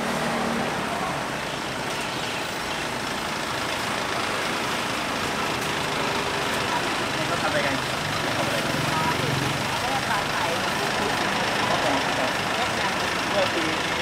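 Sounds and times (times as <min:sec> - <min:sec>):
steady engine-like roar: 0:00.0 - 0:14.0.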